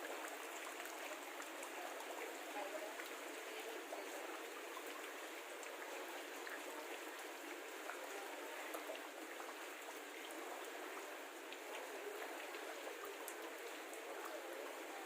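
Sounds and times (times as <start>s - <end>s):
faint water noise: 0.0s - 15.0s.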